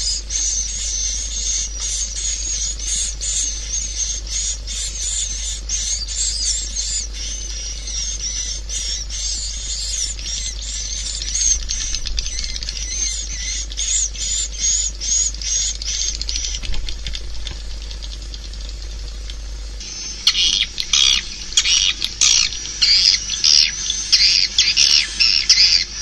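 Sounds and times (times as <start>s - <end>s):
swiftlet chirps twittering: 0.0s - 16.7s, 18.0s - 26.0s
low hum: 0.0s - 26.0s.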